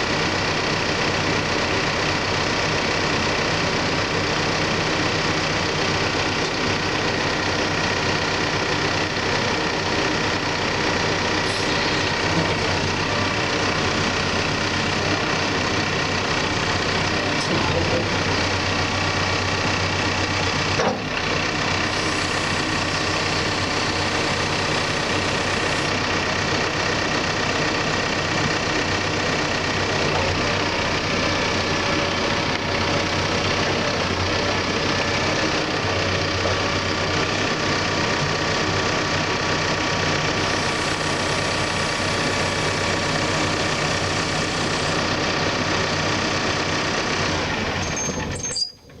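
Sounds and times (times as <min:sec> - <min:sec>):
diesel engine idling: 0:00.0 - 0:48.5.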